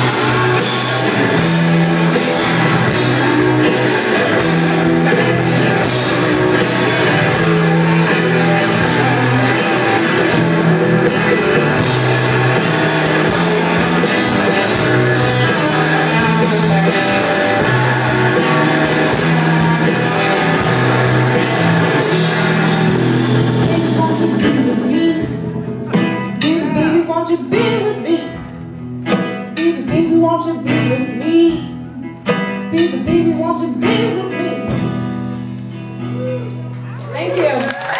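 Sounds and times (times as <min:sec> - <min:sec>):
bass line: 0:00.0 - 0:32.2
drum kit: 0:00.0 - 0:37.9
electric guitars: 0:00.0 - 0:37.9.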